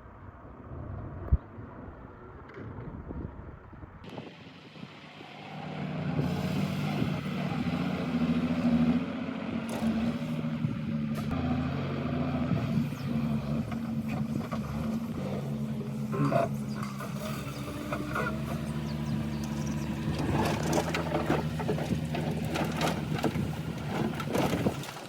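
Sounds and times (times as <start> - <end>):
excavator engine running: 4.1 - 25.0.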